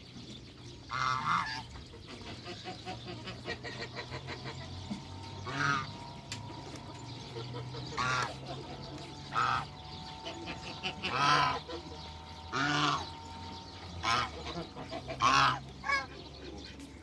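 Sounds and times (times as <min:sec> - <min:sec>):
geese honking: 0:00.8 - 0:17.0.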